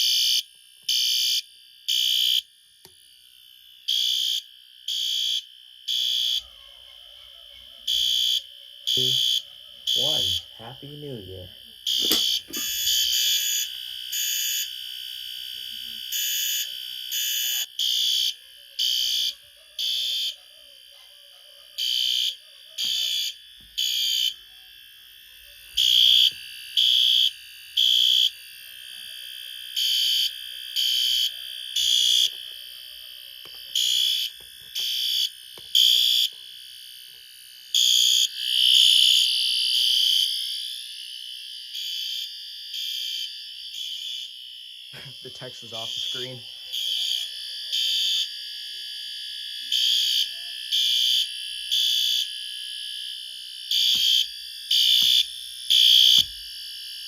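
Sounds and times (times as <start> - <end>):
fire alarm horns blasting: 0.0 - 2.5, 3.9 - 6.5, 7.9 - 20.4, 21.8 - 24.4, 25.1 - 32.4, 33.5 - 36.8, 37.4 - 57.0
long steady alarm tone: 0.0 - 57.0.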